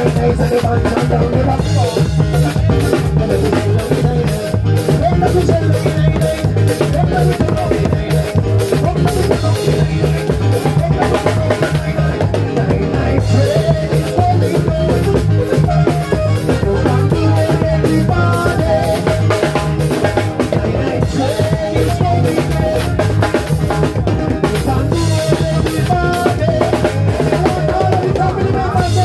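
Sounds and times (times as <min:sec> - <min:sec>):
loud music with drum beat: 0:00.0 - 0:29.0
pulsing bass line: 0:00.0 - 0:29.0.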